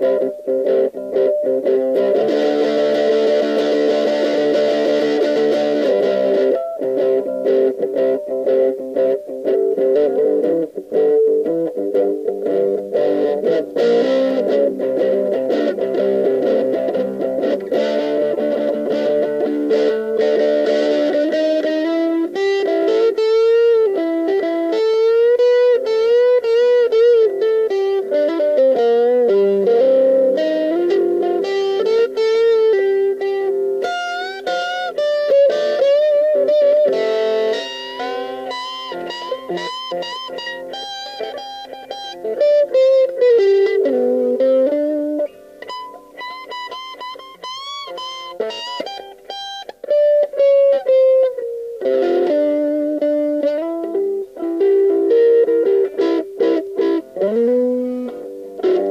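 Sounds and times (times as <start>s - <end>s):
overdriven electric guitar: 0.0s - 58.9s.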